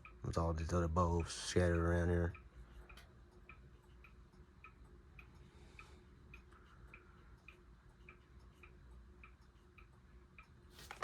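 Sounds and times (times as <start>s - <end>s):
clocks ticking: 0.0s - 10.7s
ceiling fan motor hum: 0.0s - 11.0s.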